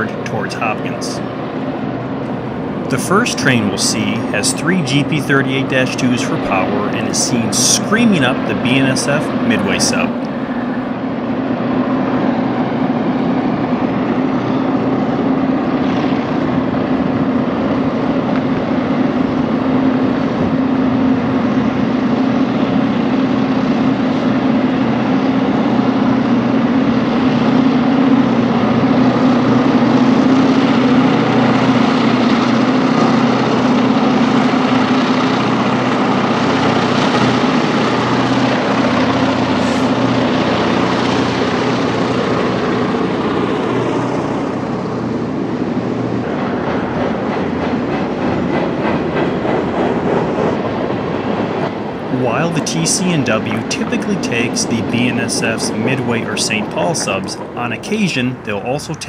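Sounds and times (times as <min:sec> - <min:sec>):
diesel locomotives screaming: 0:00.0 - 0:59.0.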